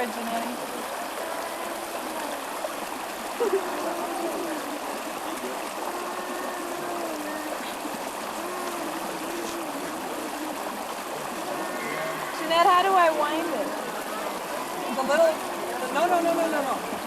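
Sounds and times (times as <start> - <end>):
faint distant voices: 0.0 - 17.0
stream water rushing: 0.0 - 17.0.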